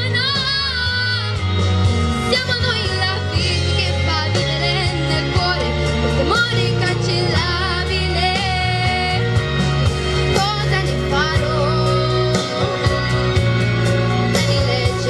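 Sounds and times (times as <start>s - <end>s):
girl singing through a speaker: 0.0s - 9.4s, 10.3s - 13.1s, 14.3s - 15.0s
backing music with a beat: 0.0s - 15.0s.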